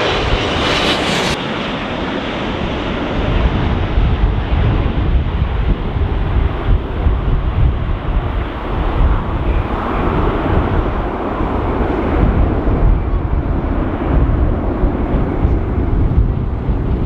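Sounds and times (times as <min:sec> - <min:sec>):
wind buffeting on microphone: 0:00.0 - 0:01.4, 0:02.2 - 0:17.0
jet airliner engine noise: 0:00.0 - 0:17.0.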